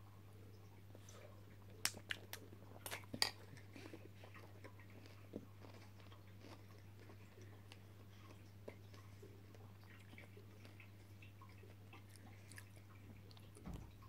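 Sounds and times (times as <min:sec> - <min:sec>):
faint low hum: 0:00.0 - 0:14.0
chewing crunchy cereal: 0:00.9 - 0:14.0.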